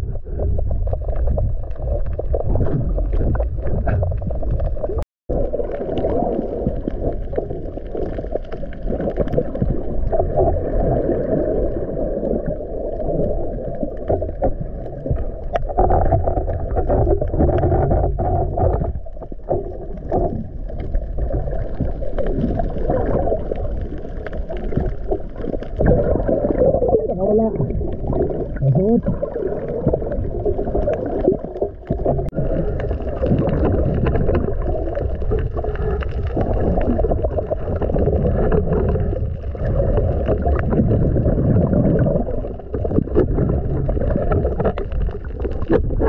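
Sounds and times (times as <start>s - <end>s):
muffled underwater rumbling: 0.0s - 46.0s.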